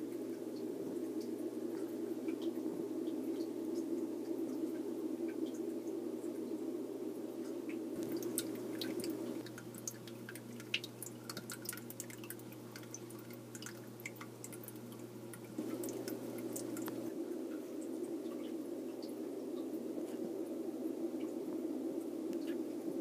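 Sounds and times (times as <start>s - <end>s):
water dripping and trickling: 0.0s - 6.7s, 7.4s - 20.2s
steady low hum: 0.0s - 23.0s.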